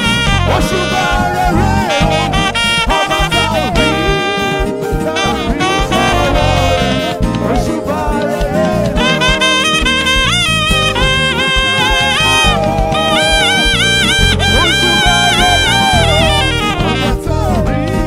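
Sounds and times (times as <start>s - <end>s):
steady drum beat: 0.0s - 17.9s
wind instrument melody: 0.0s - 18.0s.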